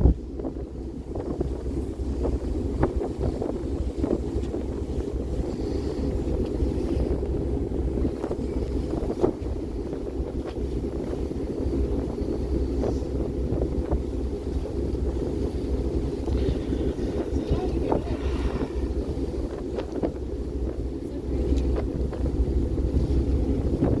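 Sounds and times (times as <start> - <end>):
low rumble: 0.0 - 24.0
wind buffeting microphone: 0.0 - 24.0.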